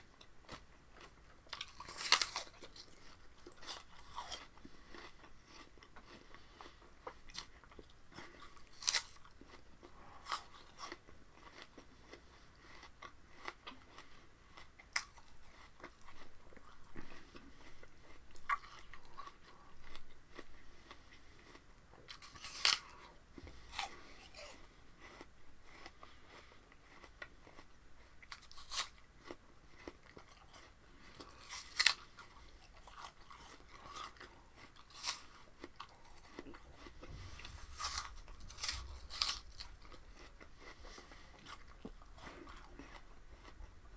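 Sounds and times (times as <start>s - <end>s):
person chewing crunchy leaves: 0.0s - 43.9s.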